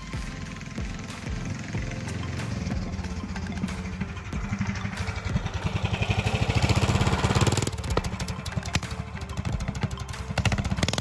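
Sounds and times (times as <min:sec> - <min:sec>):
trike engine driving past: 0:00.3 - 0:11.0.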